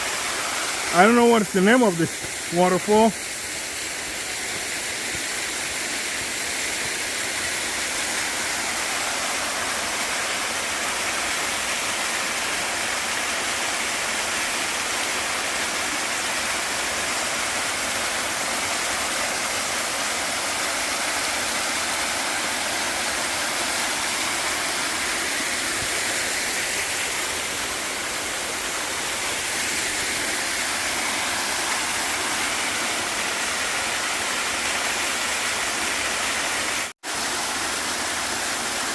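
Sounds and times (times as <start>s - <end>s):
waterfall pouring and splashing: 0.0s - 38.9s.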